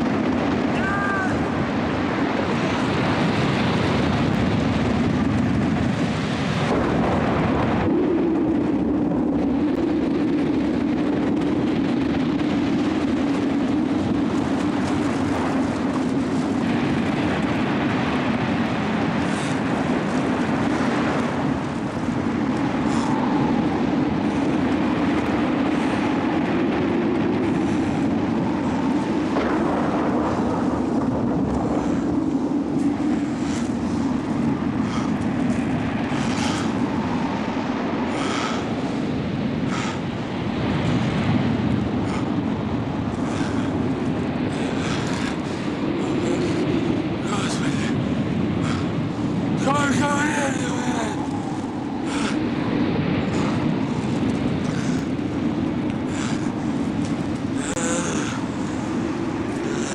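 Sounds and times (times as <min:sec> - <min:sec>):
low droning hum: 0:00.0 - 0:59.9
rough sea surf roaring: 0:00.0 - 0:59.9.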